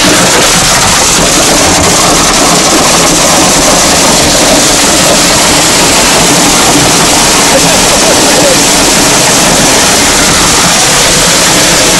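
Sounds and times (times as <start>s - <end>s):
heavy hail clattering: 0.0s - 11.9s.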